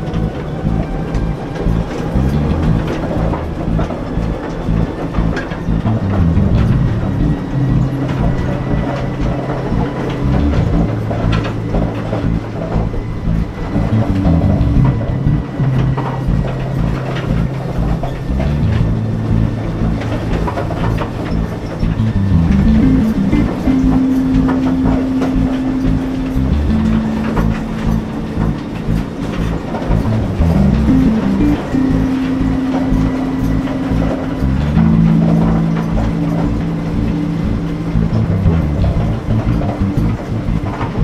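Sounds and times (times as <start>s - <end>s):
train motor drone: 0.0s - 41.0s
wheels clicking over rails: 0.0s - 41.0s.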